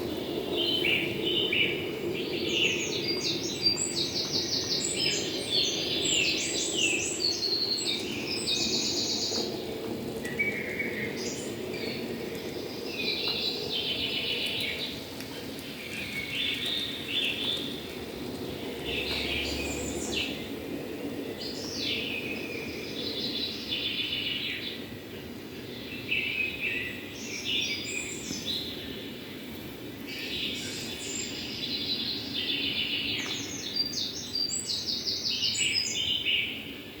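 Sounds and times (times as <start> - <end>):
songbirds chirping and trilling: 0.0 - 37.0.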